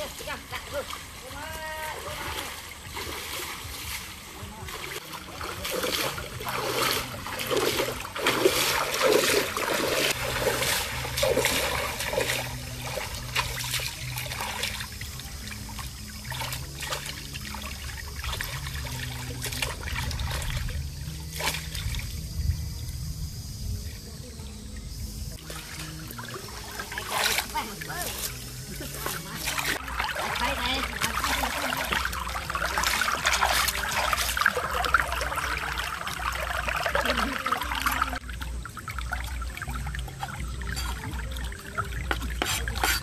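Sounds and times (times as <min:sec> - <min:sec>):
stream water splashing and trickling: 0:00.0 - 0:43.0.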